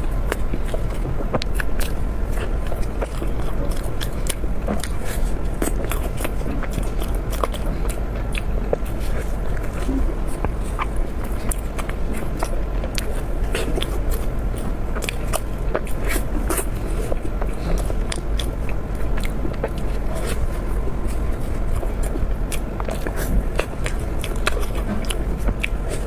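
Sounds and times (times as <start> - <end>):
biting and chewing: 0.0 - 26.0
low steady hum: 0.0 - 26.0
mouth clicks and crackles: 0.0 - 26.0.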